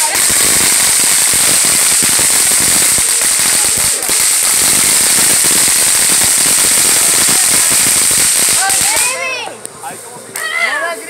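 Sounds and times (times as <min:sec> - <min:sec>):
firework crackling pops: 0:00.0 - 0:10.6
firework fountain hissing: 0:00.0 - 0:11.0.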